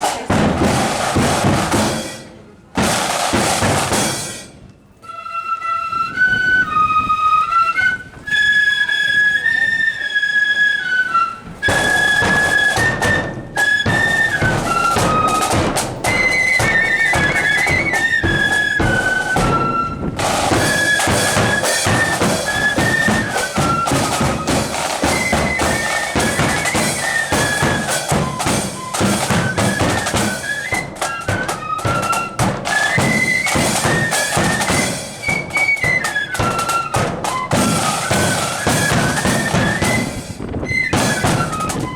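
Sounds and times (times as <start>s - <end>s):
snare and bass drums: 0.0s - 4.6s, 11.6s - 41.9s
flutes playing melody: 4.9s - 41.9s.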